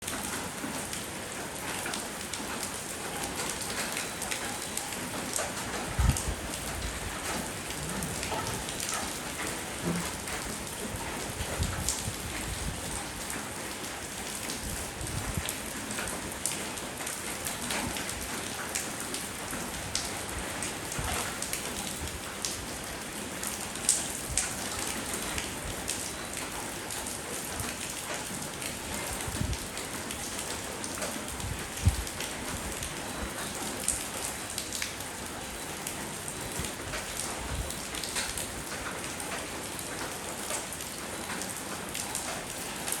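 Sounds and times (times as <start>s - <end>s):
rain on a hard surface: 0.0s - 43.0s.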